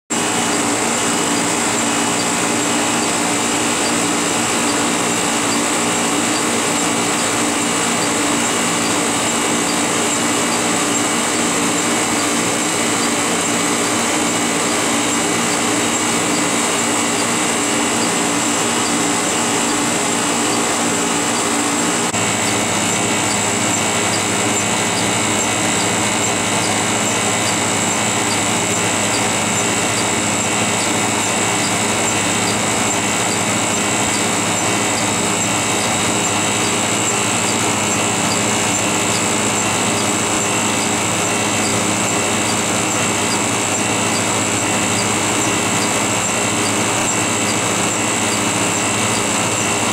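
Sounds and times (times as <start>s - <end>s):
compressor humming and hissing: 0.1s - 49.9s.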